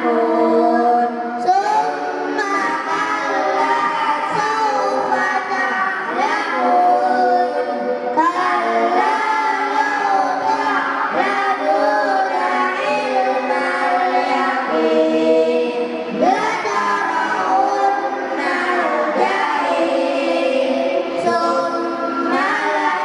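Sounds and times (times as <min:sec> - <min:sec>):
children singing in unison: 0:00.0 - 0:23.0.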